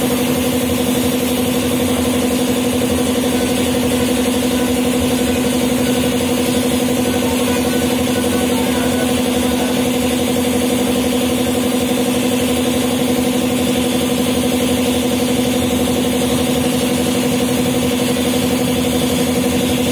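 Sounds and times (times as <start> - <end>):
car-wash machine humming: 0.0 - 19.9.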